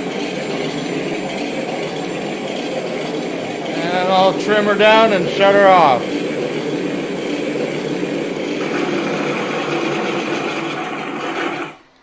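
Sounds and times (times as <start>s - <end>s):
simulated piston engine idling: 0.0s - 12.0s.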